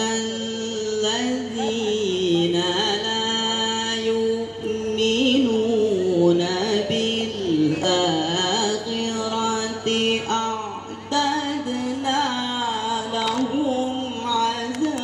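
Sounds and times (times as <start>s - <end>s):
man singing through loudspeakers: 0.0s - 15.0s.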